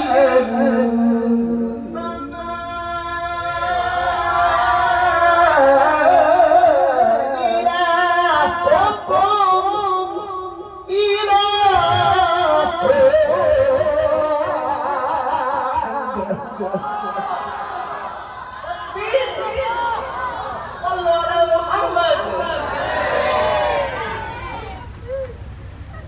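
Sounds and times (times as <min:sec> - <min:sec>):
man reciting melodically over loudspeaker: 0:00.0 - 0:22.8.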